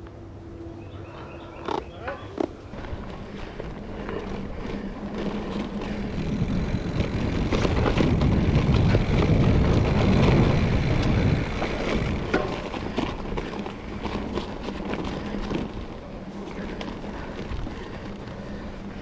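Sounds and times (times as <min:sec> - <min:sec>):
mountain bike rumbling on dirt: 0:01.0 - 0:19.0
bike clicks and rattles: 0:01.6 - 0:19.0.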